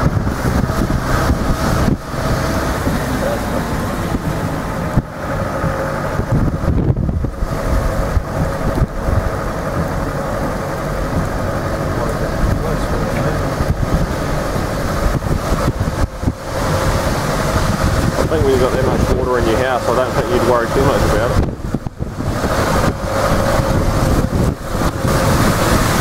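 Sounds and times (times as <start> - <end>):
vehicle engine and road rumble: 0.0 - 26.0
wind buffeting microphone: 0.0 - 26.0.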